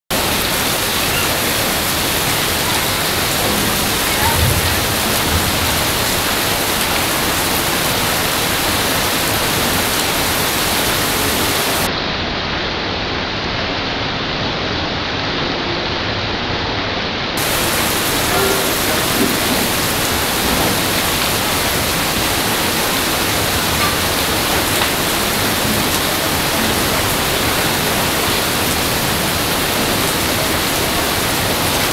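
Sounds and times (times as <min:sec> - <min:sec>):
heavy rain on hard ground: 0:00.0 - 0:31.9.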